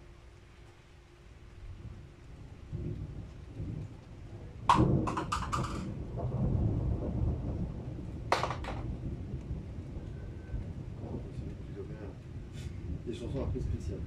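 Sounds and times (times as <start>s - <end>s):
low thunder rumble: 1.6s - 14.0s
thunder cracks: 2.7s - 14.0s.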